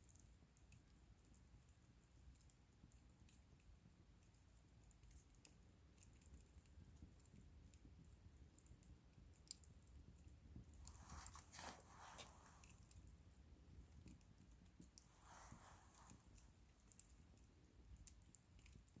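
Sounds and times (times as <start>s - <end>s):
faint bonfire crackling: 0.0s - 19.0s.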